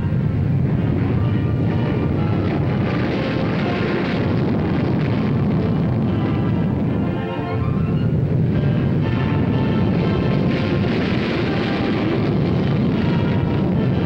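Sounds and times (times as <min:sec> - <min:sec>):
background music: 0:00.0 - 0:14.0
jet roar: 0:00.0 - 0:14.0.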